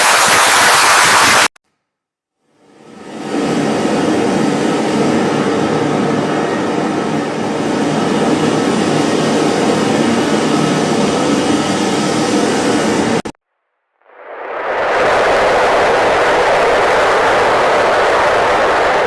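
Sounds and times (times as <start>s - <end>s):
dense wash of noise with held tones: 2.4s - 19.0s.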